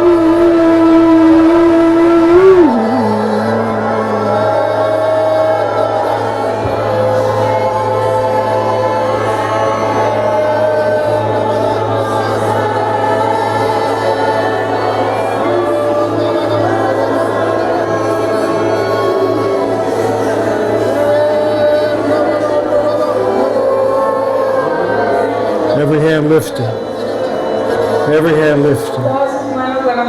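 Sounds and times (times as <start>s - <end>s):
choir singing long held notes: 0.0s - 30.0s.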